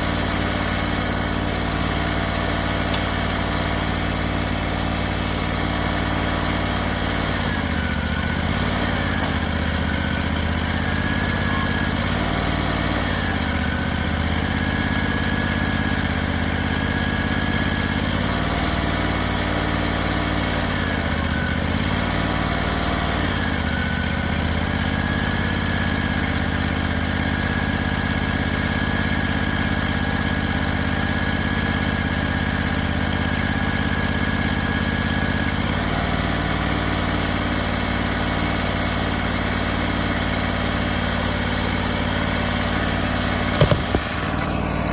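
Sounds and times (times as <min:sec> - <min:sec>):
sawmill engine running: 0:00.0 - 0:44.9.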